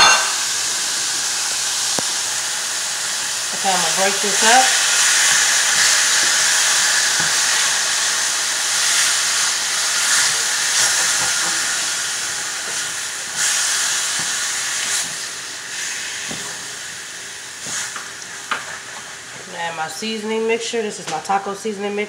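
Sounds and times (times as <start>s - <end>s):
meat sizzling in a frying pan: 0.0s - 20.5s.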